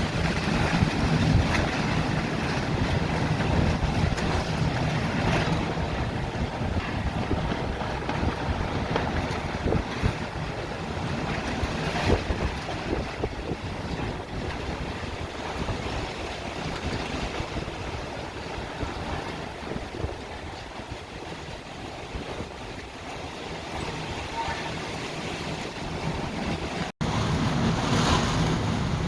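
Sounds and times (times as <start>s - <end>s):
storm wind gusting: 0.0s - 29.0s.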